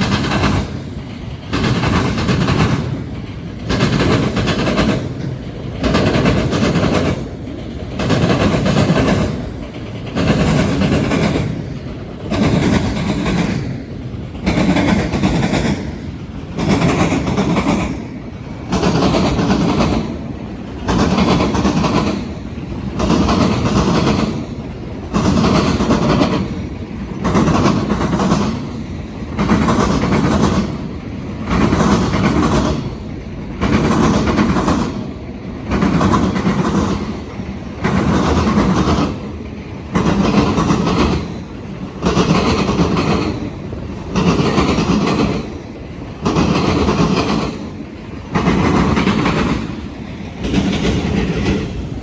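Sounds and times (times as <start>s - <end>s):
train rolling: 0.0s - 52.0s
train wheels pounding over crossings: 0.0s - 52.0s.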